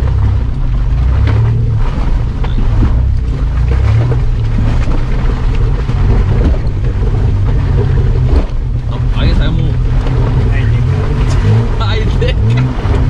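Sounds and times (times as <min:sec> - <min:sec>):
mud splashing: 0:00.0 - 0:13.0
truck engine under load: 0:00.0 - 0:13.0.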